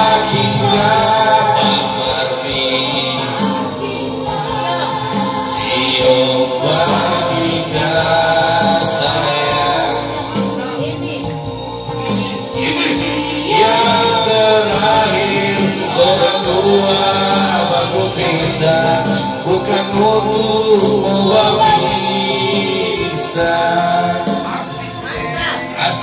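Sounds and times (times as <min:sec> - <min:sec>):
backing music with percussion: 0:00.0 - 0:26.0
man singing into microphone: 0:00.0 - 0:26.0.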